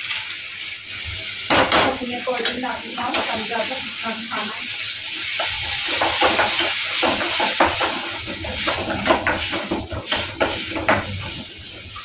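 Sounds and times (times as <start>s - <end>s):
tomatoes sizzling in a pan: 0.0s - 12.0s.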